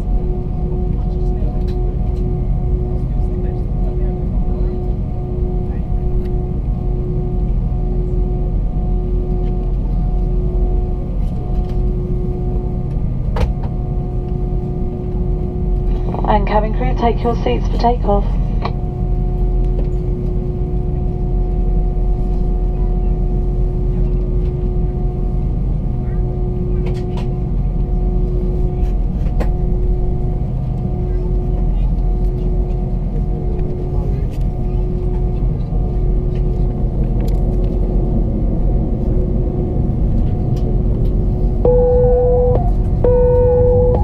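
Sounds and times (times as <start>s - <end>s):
airplane cabin engine hum: 0.0s - 44.0s.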